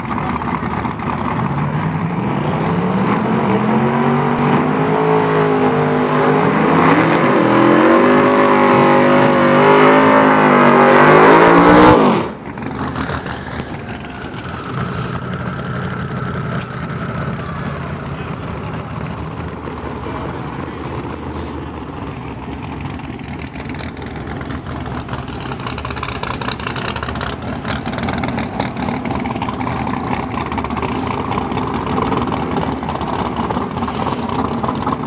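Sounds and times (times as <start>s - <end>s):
racing car engine at full throttle: 0.0s - 35.0s.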